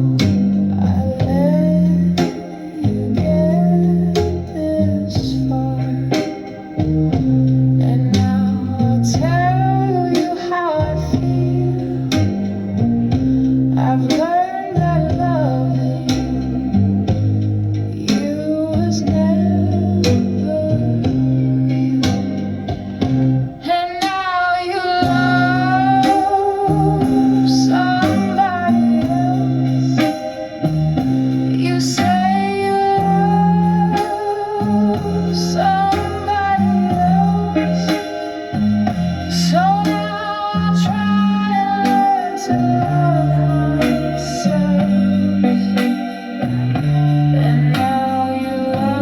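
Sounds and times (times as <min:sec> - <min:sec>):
recorded song with guitar and beat: 0:00.0 - 0:49.0.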